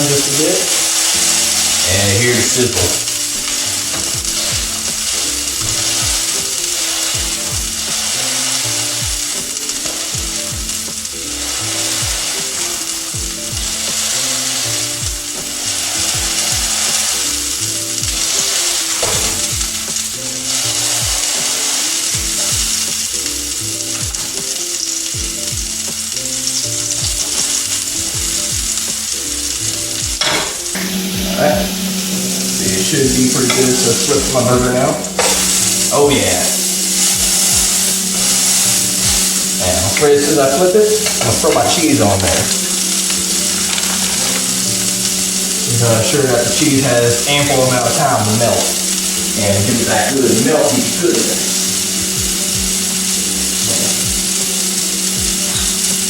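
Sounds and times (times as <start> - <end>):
background music with beat: 0.0 - 56.0
patty sizzling in a frying pan: 0.0 - 56.0.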